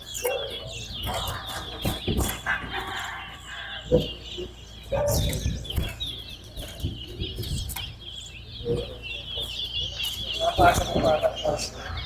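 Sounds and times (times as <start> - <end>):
finches chirping and warbling: 0.0 - 12.0.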